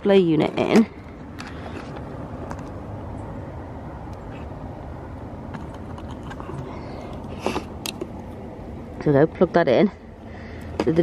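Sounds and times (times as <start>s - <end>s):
diesel heater low rumble: 0.0s - 11.0s.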